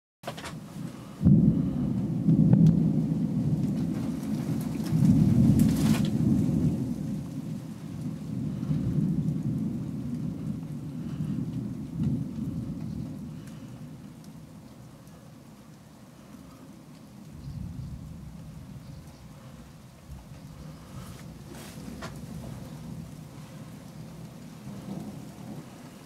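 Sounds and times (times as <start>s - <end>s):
rolling thunder rumble: 0.5s - 26.0s.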